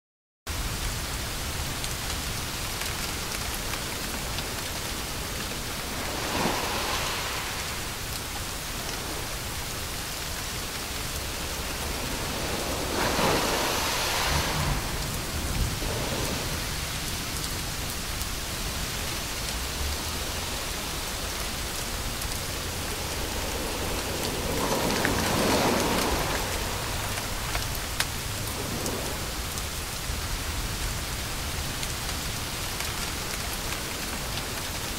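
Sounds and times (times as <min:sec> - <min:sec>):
white noise hiss: 0:00.5 - 0:34.9.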